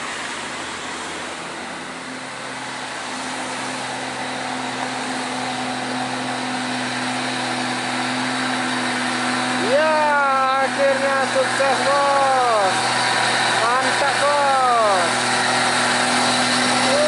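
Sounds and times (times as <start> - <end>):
diesel truck engine pulling uphill: 0.0 - 17.0.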